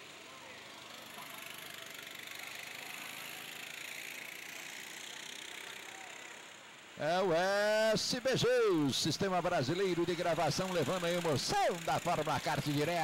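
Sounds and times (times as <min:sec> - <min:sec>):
go-kart engines buzzing: 0:00.0 - 0:13.0.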